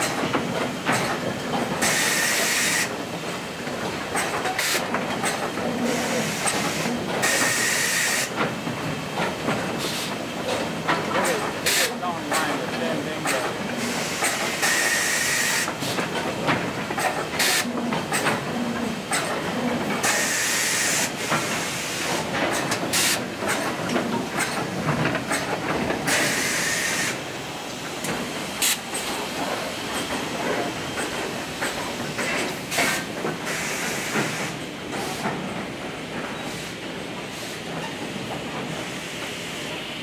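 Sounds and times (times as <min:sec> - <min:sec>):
pneumatic actuators clacking: 0:00.0 - 0:39.9.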